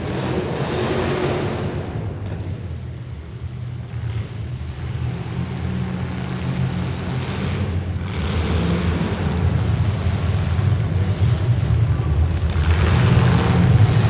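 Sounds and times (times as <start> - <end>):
car engines rumbling: 0.0 - 14.0.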